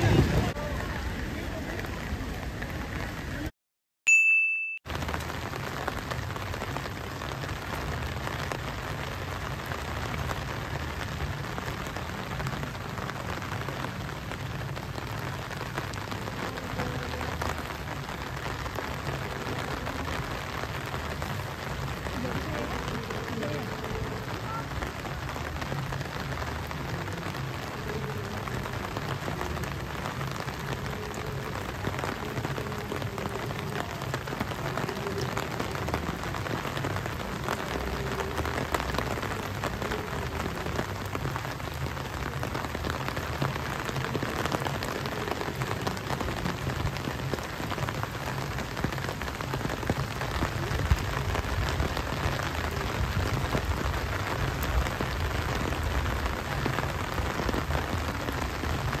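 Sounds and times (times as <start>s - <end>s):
steady rain: 0.0s - 3.5s, 4.9s - 59.0s.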